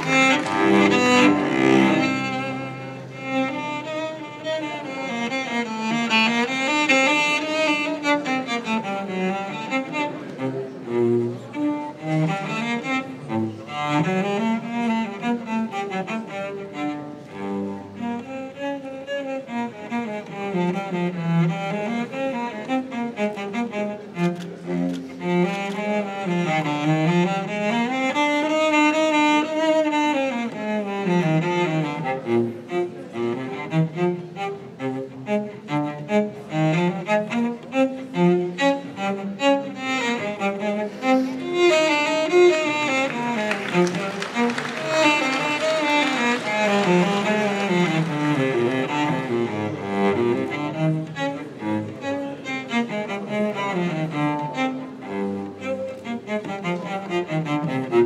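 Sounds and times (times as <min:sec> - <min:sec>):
cello playing slow melody: 0:00.0 - 0:58.0.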